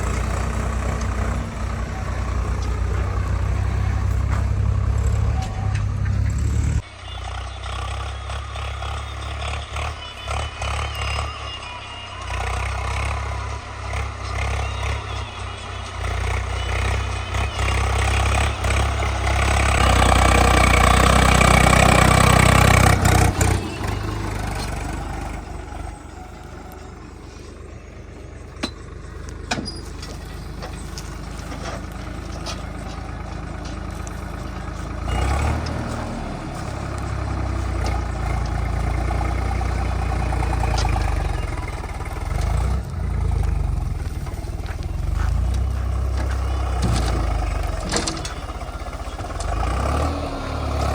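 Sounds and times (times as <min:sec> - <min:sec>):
heavy diesel machinery engine: 0:00.0 - 0:50.9.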